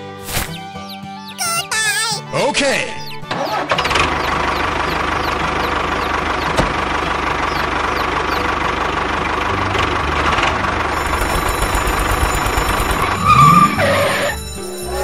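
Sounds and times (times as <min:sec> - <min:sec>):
tractor engine chugging: 0:03.0 - 0:15.0.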